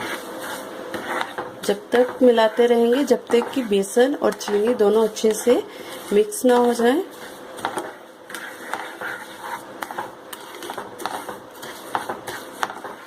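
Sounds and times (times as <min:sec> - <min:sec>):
spatula scraping a pan: 0:00.0 - 0:13.0.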